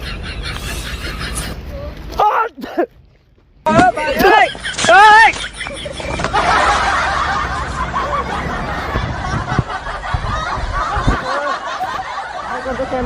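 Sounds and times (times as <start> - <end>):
people laughing and snickering: 0.0 - 2.0, 4.0 - 13.0.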